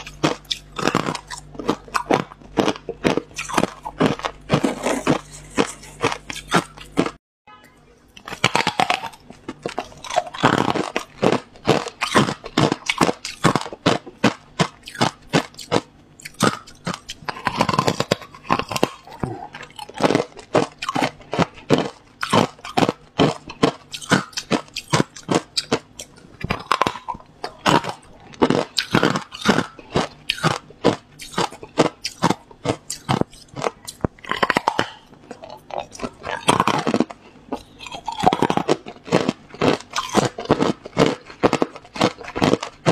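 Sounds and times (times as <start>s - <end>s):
ice crunching between teeth: 0.0s - 7.2s, 8.2s - 42.9s.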